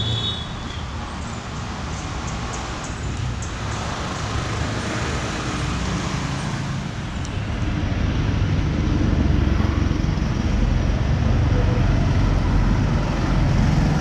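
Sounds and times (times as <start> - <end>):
vehicle running: 0.9 - 14.0.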